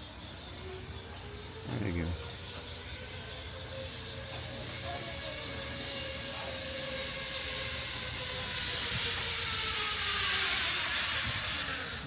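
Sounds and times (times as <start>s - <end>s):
zip line trolley whirring on cable: 0.0s - 12.0s.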